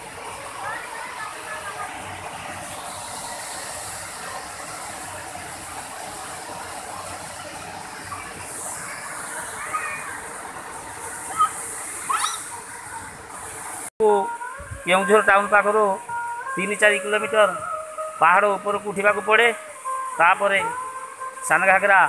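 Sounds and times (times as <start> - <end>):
waterfall rushing over rocks: 0.0 - 22.0.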